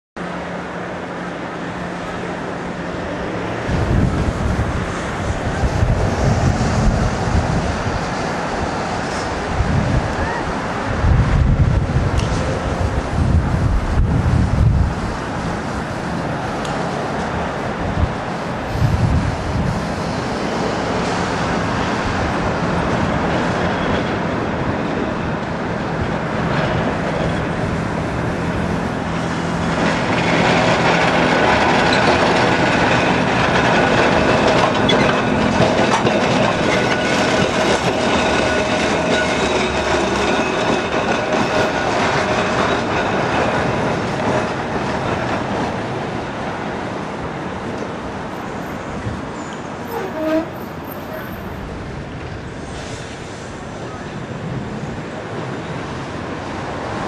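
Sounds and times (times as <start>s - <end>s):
tram wheels clattering on rails: 0.2s - 57.0s.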